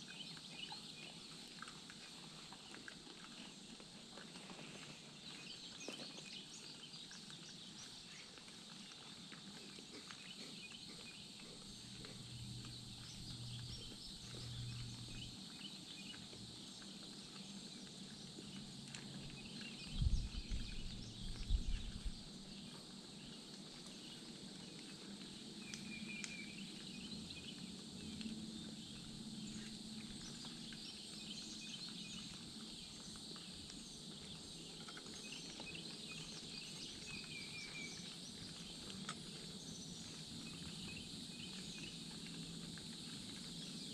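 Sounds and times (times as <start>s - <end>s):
insect and bird chirps: 0.0s - 43.9s.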